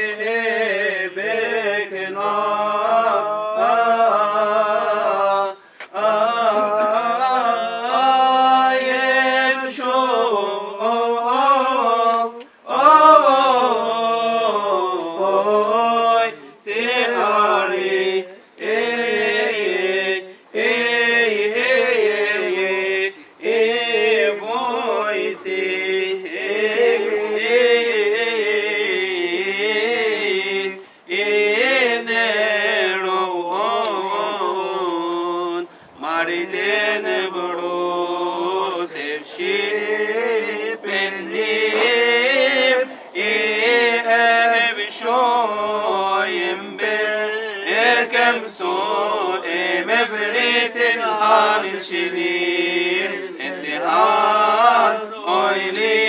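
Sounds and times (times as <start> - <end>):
voices singing unaccompanied chant: 0.0 - 56.0.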